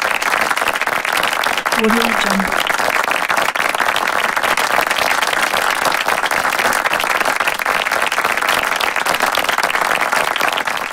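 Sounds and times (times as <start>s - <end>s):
crowd applause: 0.0s - 10.9s.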